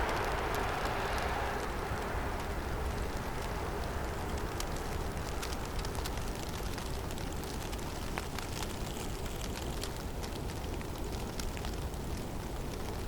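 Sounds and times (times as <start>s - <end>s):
low rush of wind: 0.0s - 13.0s
snow ticking on surfaces: 0.0s - 13.0s.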